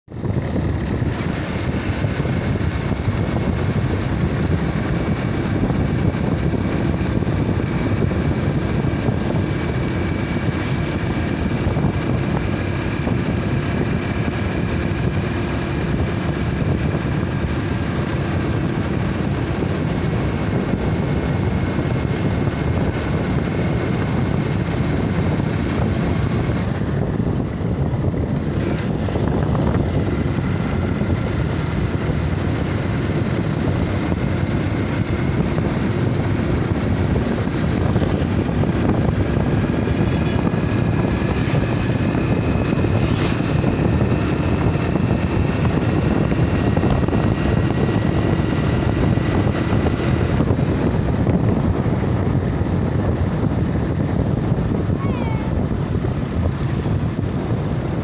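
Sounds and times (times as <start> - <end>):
motorcycle engine and road noise: 0.0 - 58.0
faint engine whine: 0.1 - 58.0
wind rushing over microphone: 0.1 - 58.0.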